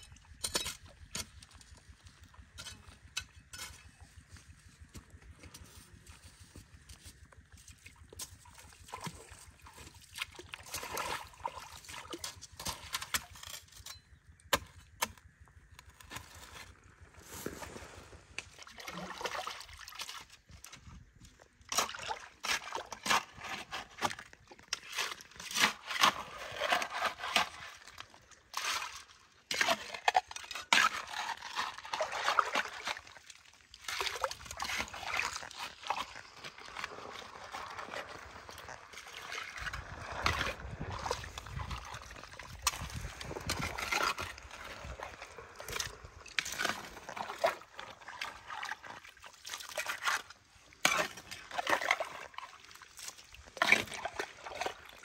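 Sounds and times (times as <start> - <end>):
muddy water sloshing and splashing: 0.0 - 55.0.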